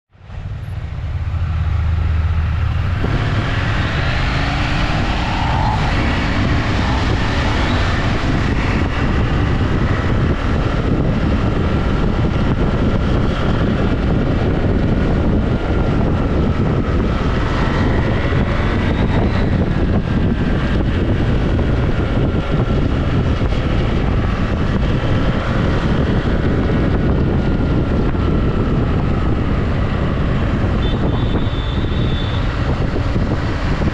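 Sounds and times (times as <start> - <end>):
wind rushing over microphone: 0.1 - 33.9.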